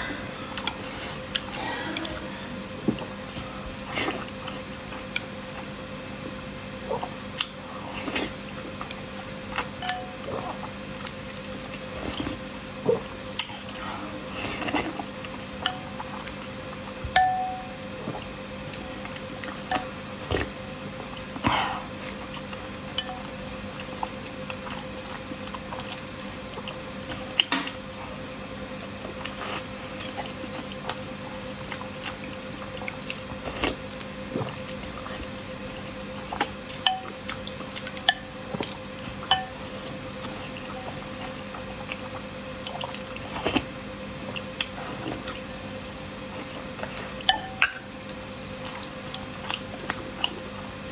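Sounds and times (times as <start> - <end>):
faint steady hum: 0.0 - 50.9
chewing and mouth sounds: 0.5 - 5.7, 6.7 - 16.8, 17.7 - 50.9.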